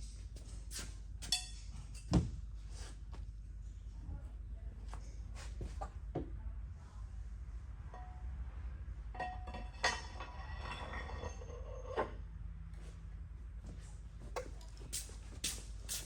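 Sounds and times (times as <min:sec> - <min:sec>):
low shop hum: 0:00.0 - 0:16.0.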